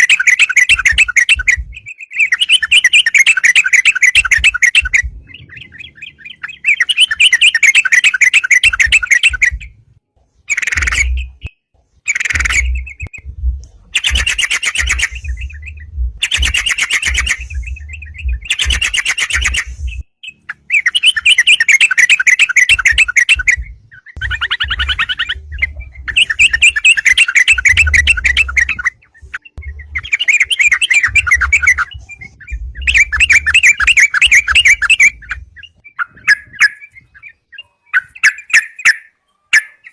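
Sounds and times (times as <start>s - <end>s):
bird chattering song: 0.0s - 9.8s, 10.4s - 39.9s.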